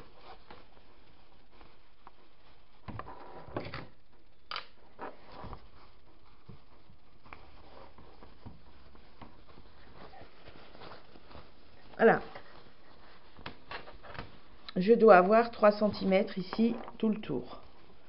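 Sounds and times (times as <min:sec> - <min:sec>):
steady hiss: 0:00.0 - 0:16.7
cloth rustling: 0:00.0 - 0:18.0.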